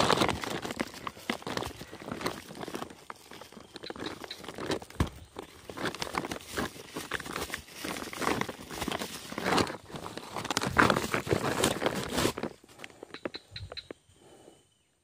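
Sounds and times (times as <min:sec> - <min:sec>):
plastic sack crinkling: 0:00.0 - 0:12.9.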